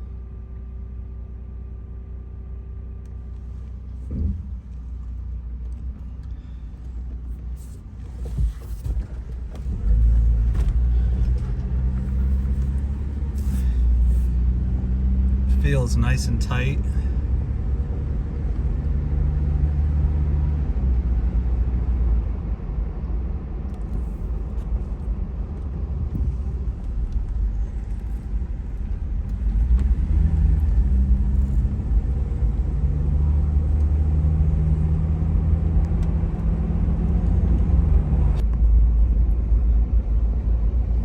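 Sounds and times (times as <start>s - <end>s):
road rumble: 0.0s - 41.0s
car engine running: 0.1s - 41.0s.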